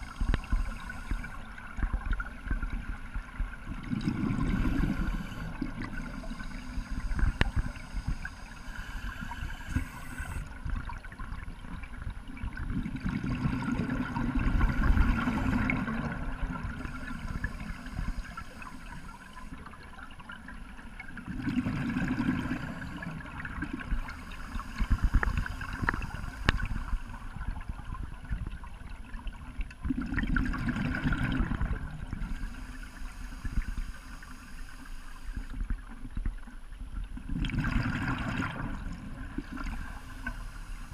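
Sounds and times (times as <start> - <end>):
exhaled bubbles gurgling underwater: 0.0 - 40.9
low rumble of water: 0.0 - 40.9.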